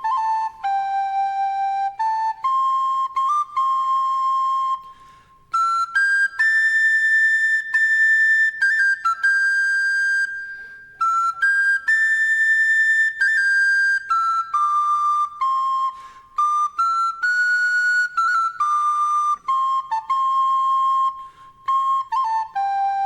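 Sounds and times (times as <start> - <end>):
solo flute folk melody: 0.0 - 23.0.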